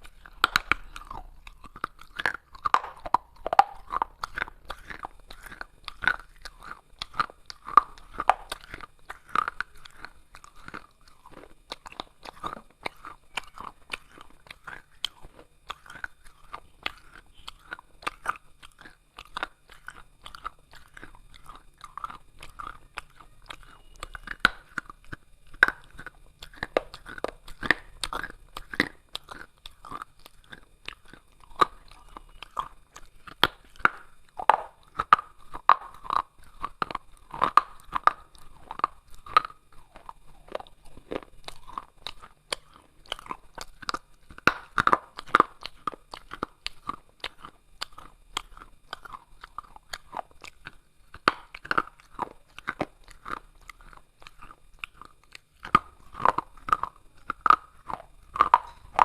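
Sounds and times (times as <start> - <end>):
person chewing crunchy clay: 0.0 - 59.0.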